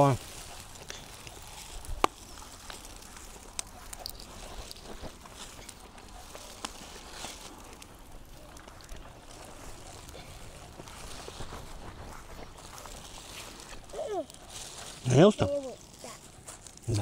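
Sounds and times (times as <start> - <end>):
faint clicks and ticks: 0.0 - 14.8.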